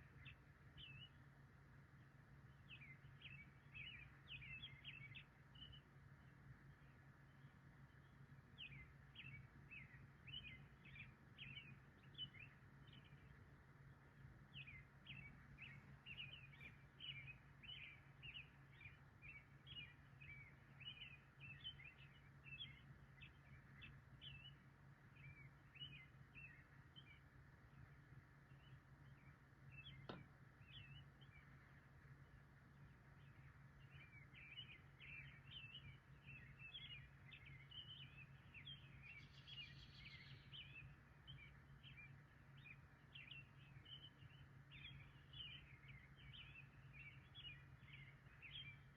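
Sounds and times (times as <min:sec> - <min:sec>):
birds chirping: 0:02.5 - 0:48.9.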